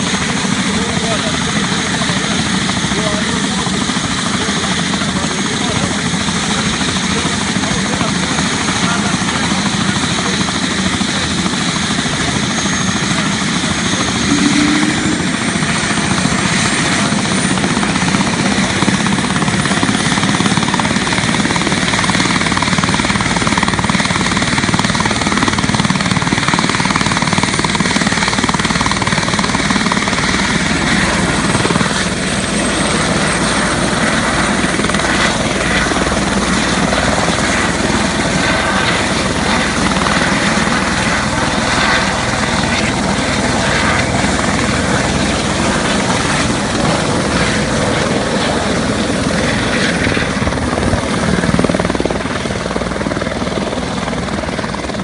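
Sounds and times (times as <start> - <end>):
helicopter rotor beat: 0.0 - 55.0
helicopter turbine whine: 0.0 - 55.0.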